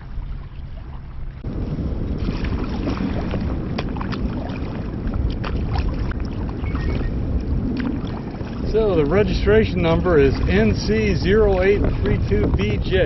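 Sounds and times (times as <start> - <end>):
water lapping and splashing: 0.0 - 13.0
wind rumble on microphone: 0.0 - 13.0.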